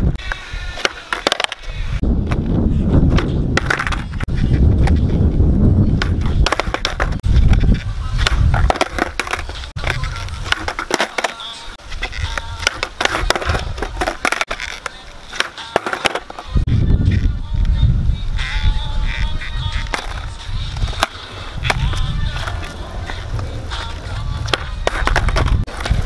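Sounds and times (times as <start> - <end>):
skateboard tail popping clacks: 0.2 - 5.2, 5.9 - 17.3, 19.1 - 26.0
skateboard clattering on asphalt: 0.7 - 5.2, 5.8 - 16.6, 19.1 - 26.0.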